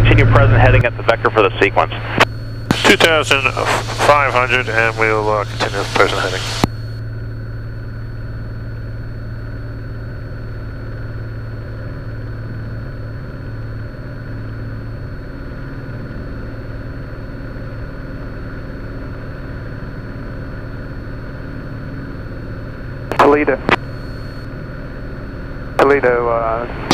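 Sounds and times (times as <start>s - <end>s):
propeller plane engine hum in cabin: 0.0s - 26.9s.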